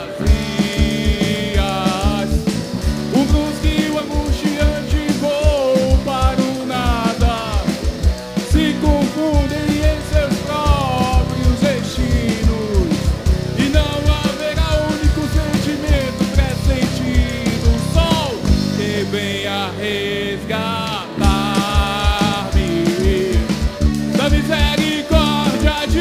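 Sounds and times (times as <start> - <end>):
rock song playing: 0.0 - 26.0.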